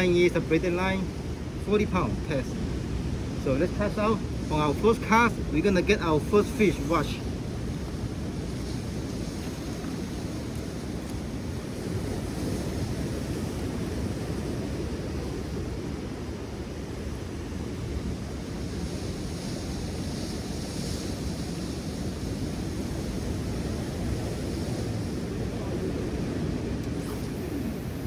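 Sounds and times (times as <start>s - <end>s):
surf washing against rocks: 0.0s - 28.0s
wind rumbling on microphone: 0.0s - 28.0s.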